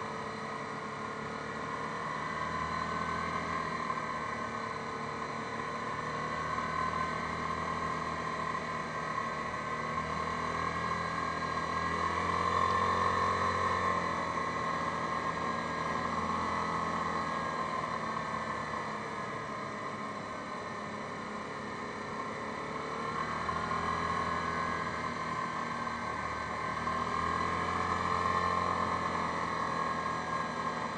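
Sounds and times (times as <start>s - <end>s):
quad bike engine running: 0.0s - 30.9s.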